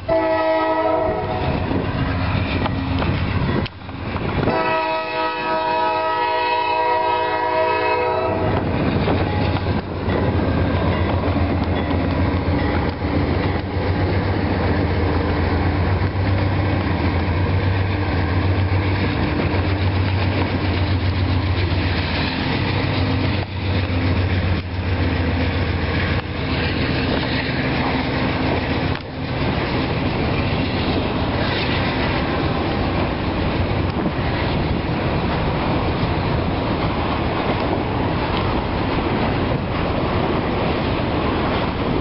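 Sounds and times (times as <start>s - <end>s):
diesel locomotive engine drone: 0.0s - 42.0s
train rolling by: 0.0s - 42.0s.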